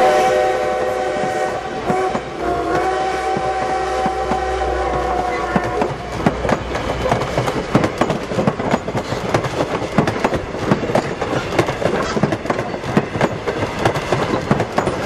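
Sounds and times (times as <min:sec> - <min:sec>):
train wheels clattering over rail joints: 0:01.2 - 0:15.0.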